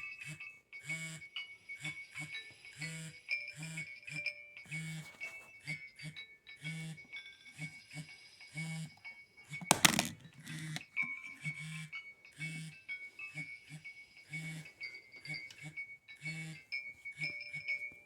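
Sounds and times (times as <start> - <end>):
mobile phone ringtone melody: 0.0 - 9.2, 10.6 - 18.0.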